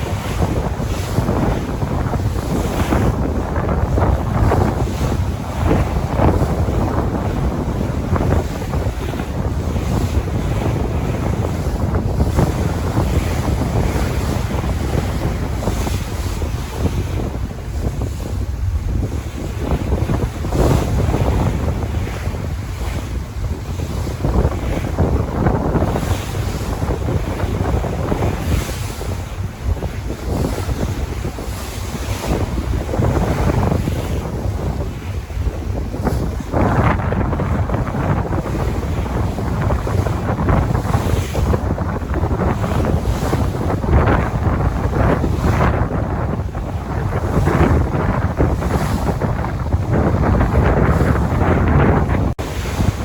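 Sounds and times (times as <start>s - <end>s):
sea waves washing in: 0.0s - 53.0s
wind rumbling on microphone: 0.0s - 53.0s.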